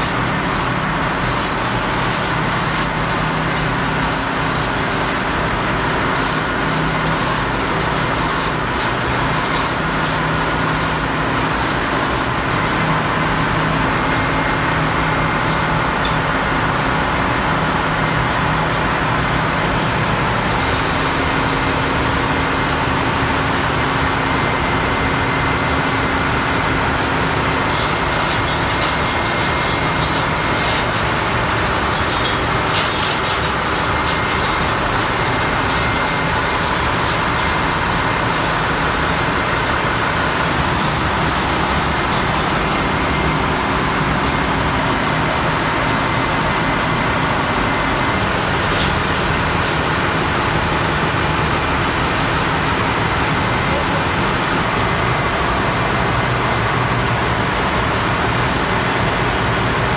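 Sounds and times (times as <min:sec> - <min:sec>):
engine room machinery din: 0:00.0 - 0:59.9.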